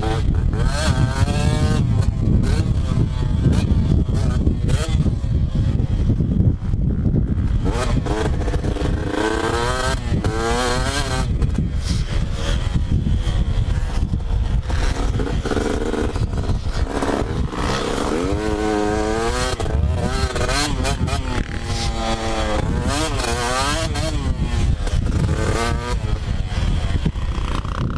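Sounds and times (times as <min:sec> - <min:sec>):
motocross bike engine revving: 0:00.0 - 0:27.9.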